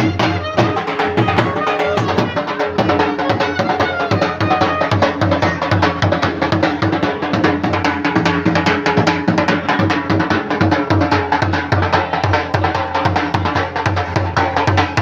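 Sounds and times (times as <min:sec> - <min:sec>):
upbeat music with fast drumming: 0:00.0 - 0:15.0.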